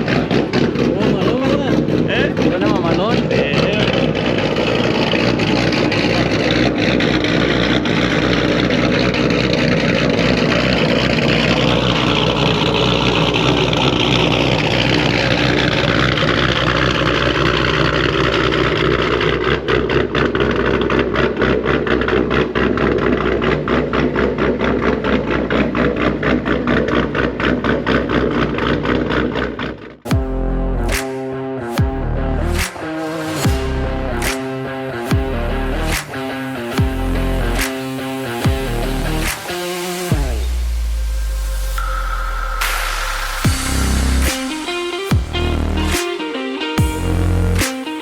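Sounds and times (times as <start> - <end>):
car engine revving and idling: 0.0 - 48.0.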